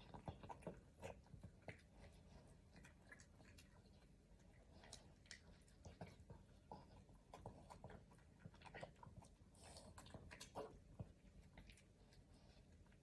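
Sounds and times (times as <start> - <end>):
dog chewing and lip-smacking: 0.0 - 13.0.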